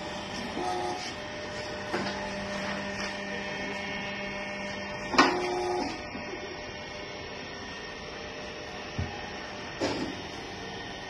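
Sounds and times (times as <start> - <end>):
packing machine humming: 0.0 - 11.0.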